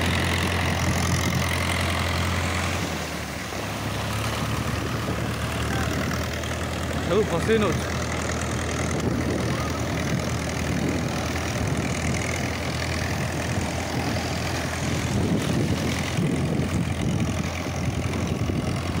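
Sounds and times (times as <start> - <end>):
tractor diesel engine running: 0.0 - 19.0
waves washing: 0.0 - 19.0.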